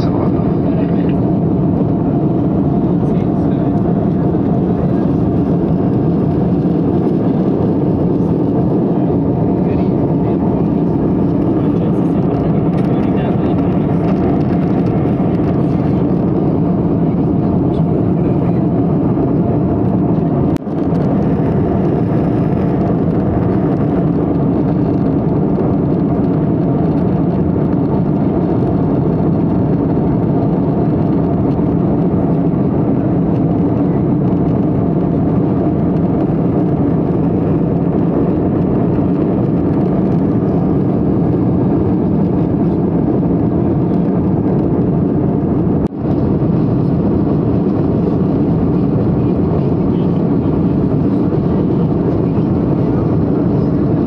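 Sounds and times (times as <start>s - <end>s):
jet airliner cabin noise: 0.0s - 54.0s.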